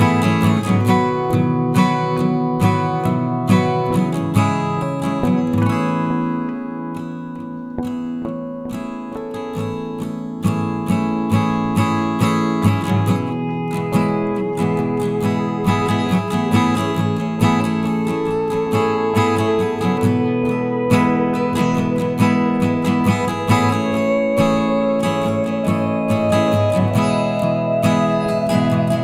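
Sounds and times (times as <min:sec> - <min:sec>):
strummed acoustic guitar music: 0:00.0 - 0:29.0.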